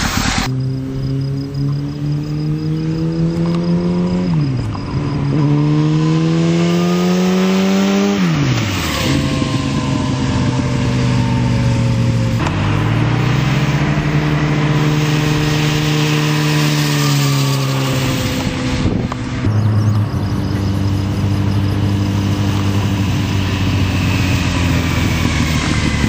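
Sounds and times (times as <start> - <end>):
motorcycle accelerating past: 0.0 - 26.0.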